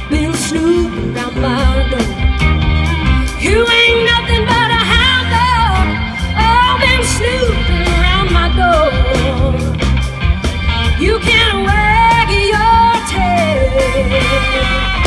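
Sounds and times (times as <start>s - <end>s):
woman singing: 0.0s - 9.8s, 10.9s - 15.0s
bass guitar: 0.0s - 15.0s
drum kit: 0.0s - 15.0s
electric guitars: 0.0s - 15.0s.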